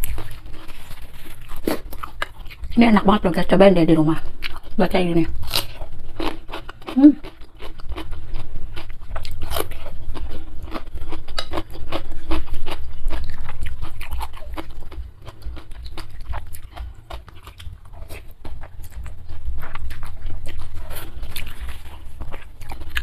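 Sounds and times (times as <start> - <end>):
person chewing with crisp crunching: 0.0 - 23.0.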